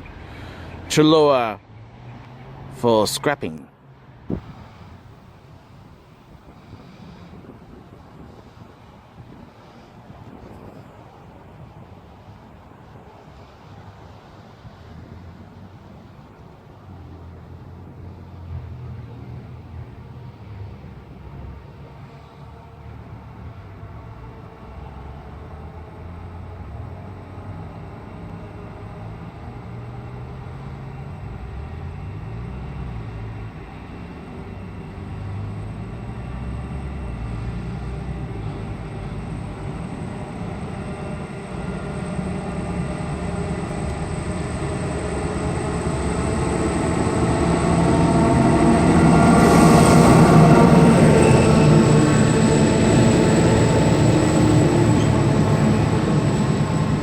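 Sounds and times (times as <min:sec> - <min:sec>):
train rumble: 0:04.3 - 0:57.0.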